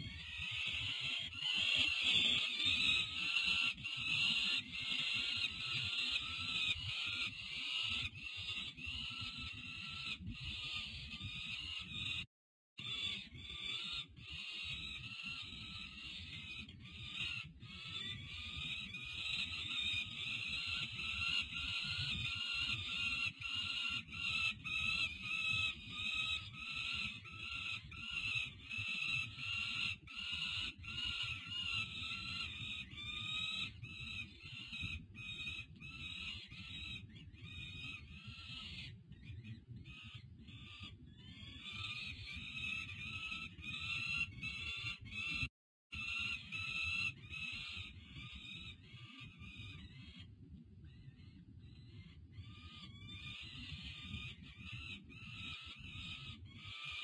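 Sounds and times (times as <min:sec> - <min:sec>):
falcon chicks begging cries: 0:00.0 - 0:12.2, 0:12.8 - 0:50.2, 0:52.4 - 0:57.0.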